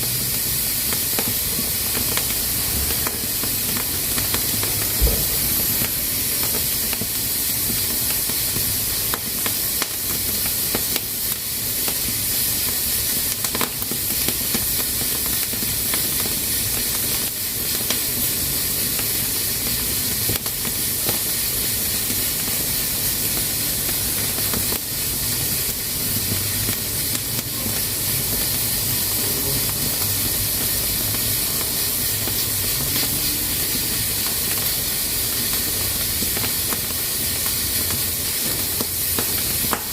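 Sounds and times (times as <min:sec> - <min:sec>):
pressure cooker hissing: 0:00.0 - 0:39.9.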